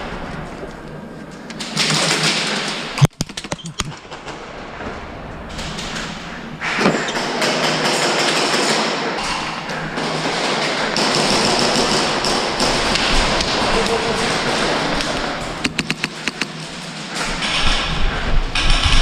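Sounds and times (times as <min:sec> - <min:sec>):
steady rustling noise: 0:00.0 - 0:19.0.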